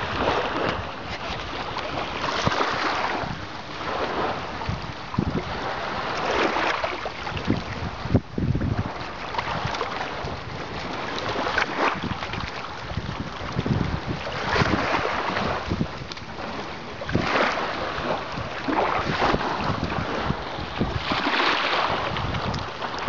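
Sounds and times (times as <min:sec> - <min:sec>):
small waves in shallow surf: 0:00.0 - 0:23.0
wind buffeting microphone: 0:00.0 - 0:23.0.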